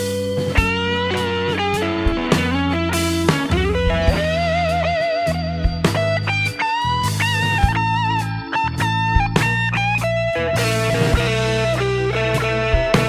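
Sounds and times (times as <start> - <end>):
electric guitar bending notes: 0.0 - 13.0
low bass line: 0.0 - 13.0.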